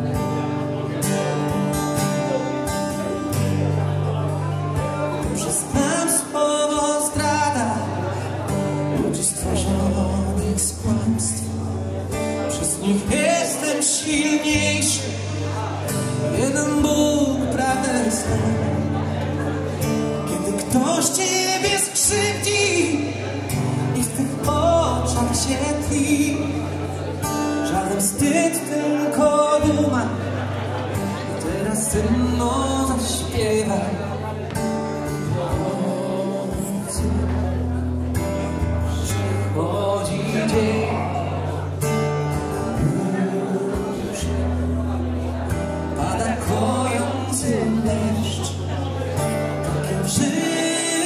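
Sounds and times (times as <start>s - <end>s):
acoustic guitar strumming: 0.0s - 51.0s
man singing: 2.3s - 51.0s.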